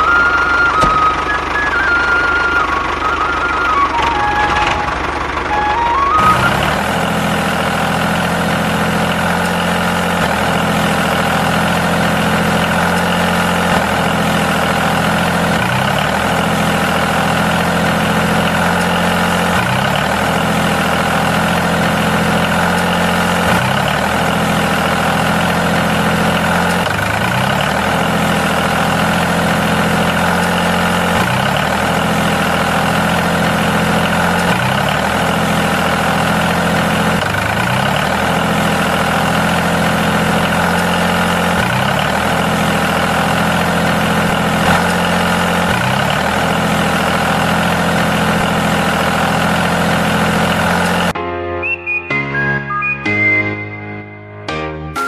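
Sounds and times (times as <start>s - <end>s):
diesel tractor engine idling: 0.0s - 51.2s.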